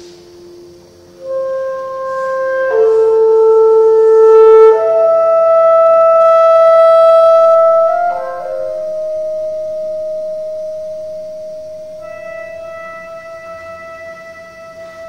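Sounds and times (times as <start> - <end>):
chamber ensemble holding long notes: 0.0 - 15.0
wind instrument tone: 0.0 - 15.0.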